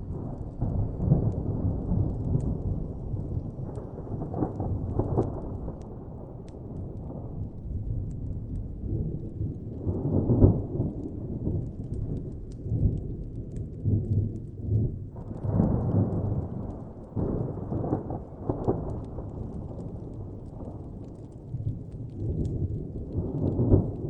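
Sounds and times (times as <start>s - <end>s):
distant rolling thunder: 0.0s - 24.0s
faint fire crackles: 0.0s - 24.0s.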